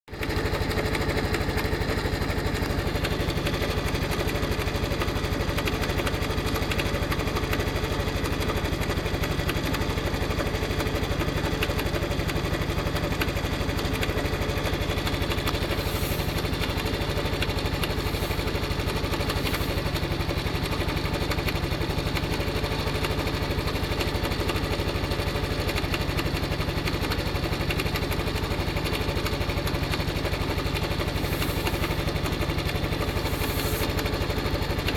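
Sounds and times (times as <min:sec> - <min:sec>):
abnormal mechanical engine noise: 0:00.1 - 0:34.9
motorcycle engine idling: 0:00.1 - 0:34.9.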